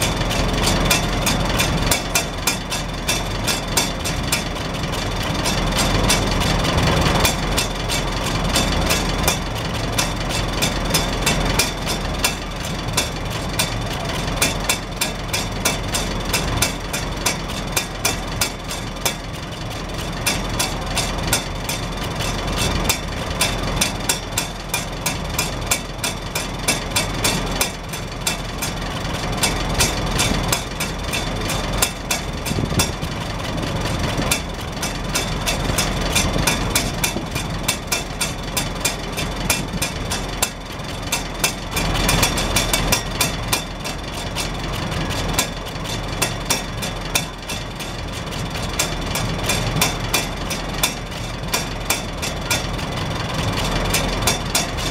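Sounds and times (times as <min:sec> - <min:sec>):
exhaust flapper tapping and clicking: 0:00.0 - 0:54.9
tractor engine idling: 0:00.0 - 0:54.9.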